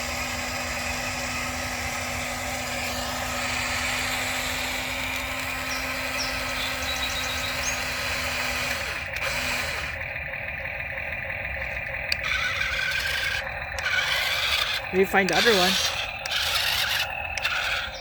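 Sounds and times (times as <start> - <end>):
toy excavator motor whirring: 0.0 - 18.0.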